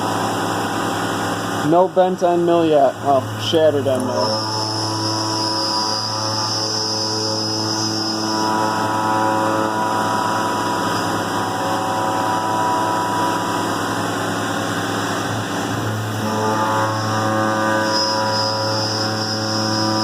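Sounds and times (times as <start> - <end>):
milling machine whine: 0.0 - 20.0
high singing cutter tone: 1.6 - 20.0.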